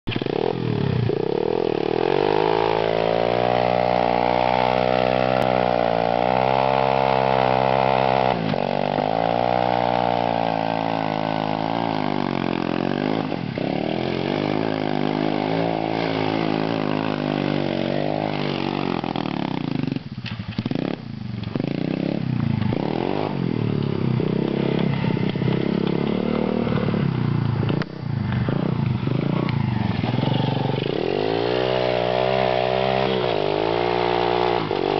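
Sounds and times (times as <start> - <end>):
motorbike engine revving hard: 0.1 - 34.9.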